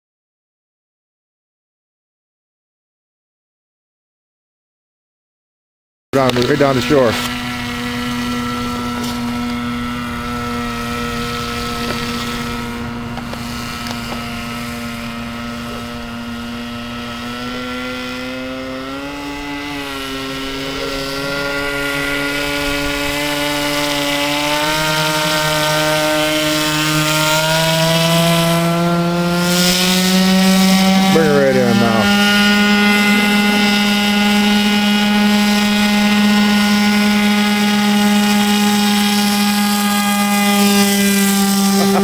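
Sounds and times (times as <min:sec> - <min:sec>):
model boat engine buzzing: 0:06.2 - 0:42.0.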